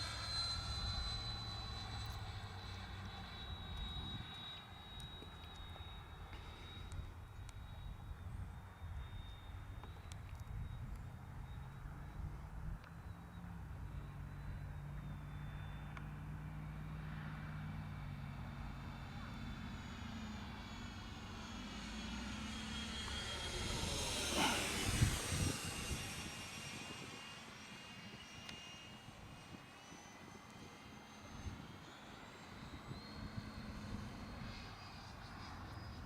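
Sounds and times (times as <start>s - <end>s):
rc jet fan whine: 0.0s - 36.0s.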